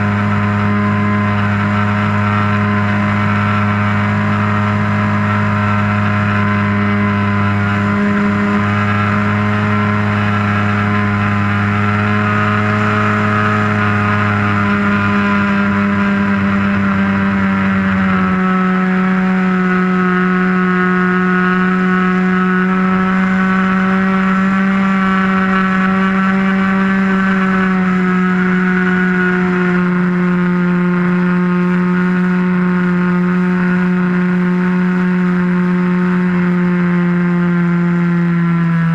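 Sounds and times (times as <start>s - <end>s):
model airplane motor running: 0.0s - 38.9s.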